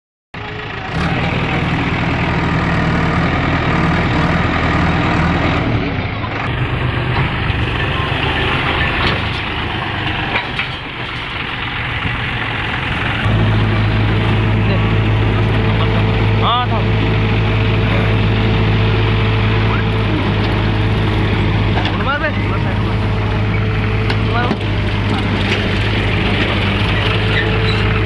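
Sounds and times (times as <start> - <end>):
diesel engine droning: 0.4 - 28.0.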